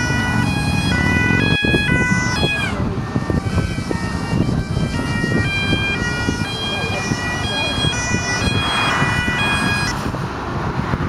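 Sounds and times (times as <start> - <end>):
motorcycle sirens: 0.0 - 10.2
engines rumbling: 0.0 - 11.0
wind: 0.0 - 11.0.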